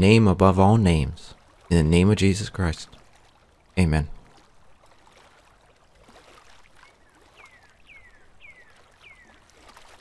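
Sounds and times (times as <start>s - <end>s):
faint rushing water-like noise: 1.3s - 10.0s.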